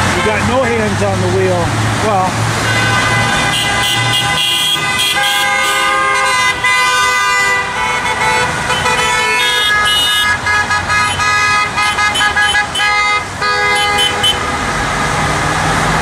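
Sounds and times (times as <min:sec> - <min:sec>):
car horns honking: 0:00.0 - 0:00.9, 0:02.5 - 0:14.8
heavy traffic rushing: 0:00.0 - 0:16.0.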